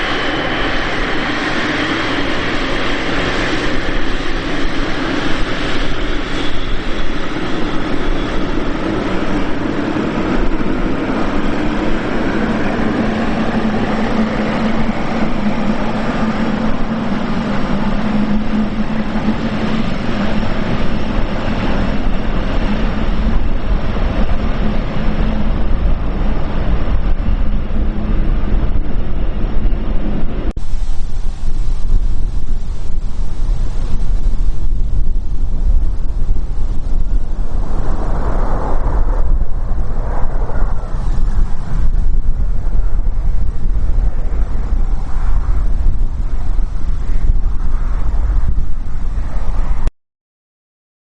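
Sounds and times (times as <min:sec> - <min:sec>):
jet engines running: 0:00.0 - 0:49.9
wind rumbling on microphone: 0:00.0 - 0:49.9.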